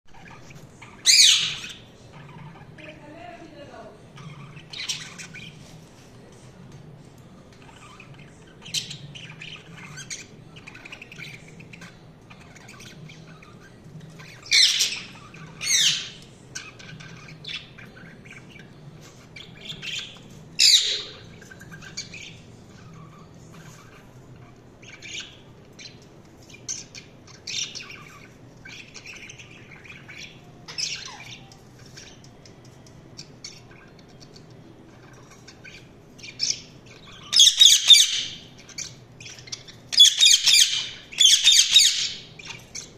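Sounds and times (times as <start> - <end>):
budgerigars chirping: 0.1 - 5.7, 7.5 - 32.6, 33.2 - 42.9.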